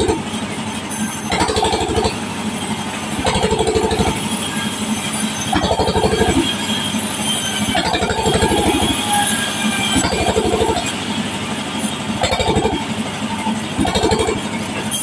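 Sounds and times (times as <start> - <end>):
sawmill saw cutting plank: 0.0 - 15.0.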